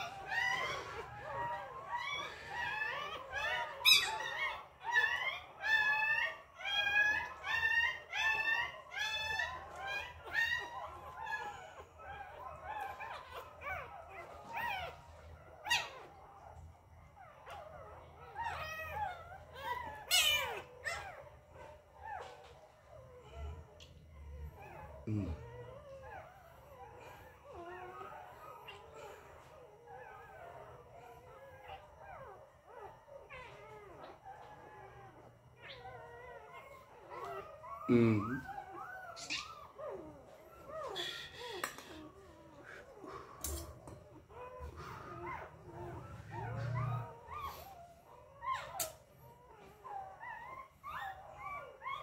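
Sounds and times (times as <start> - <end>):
puppy whimpering and squealing: 0.0 - 52.0.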